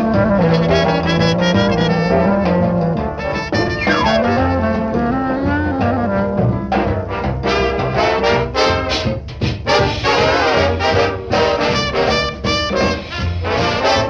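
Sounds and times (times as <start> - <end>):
swing jazz brass music: 0.0 - 14.0.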